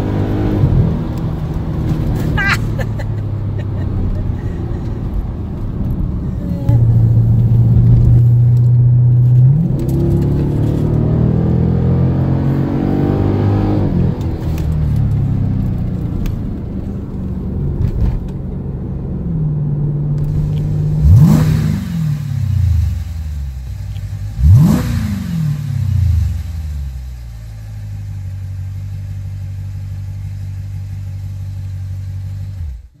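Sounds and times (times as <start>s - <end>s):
car engine revving: 0.0s - 28.2s
car engine idling: 1.1s - 9.4s, 14.2s - 33.0s.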